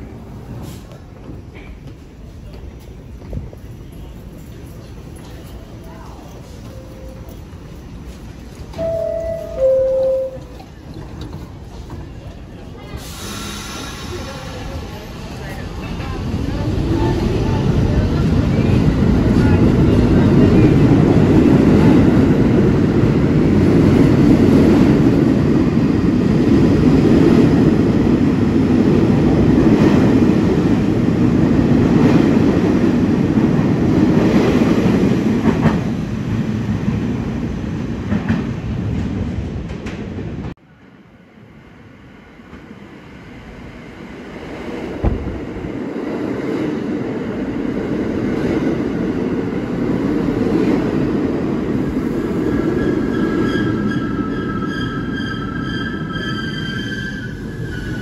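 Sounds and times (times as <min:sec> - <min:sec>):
subway train rolling: 0:00.0 - 0:58.0
train arriving and passing: 0:00.0 - 0:58.0.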